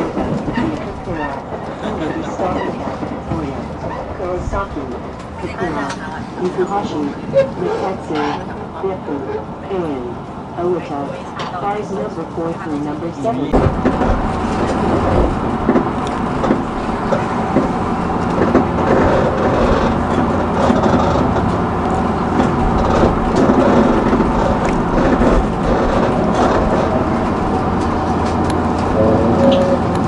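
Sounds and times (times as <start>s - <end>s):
train rumble from inside: 0.0s - 30.0s.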